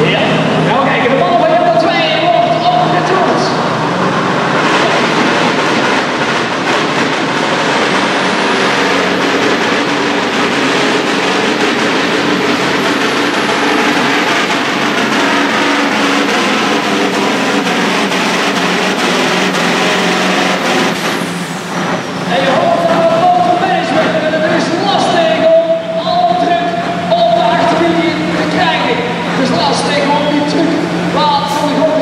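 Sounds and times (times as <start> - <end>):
truck diesel engine at full throttle: 0.0 - 32.0.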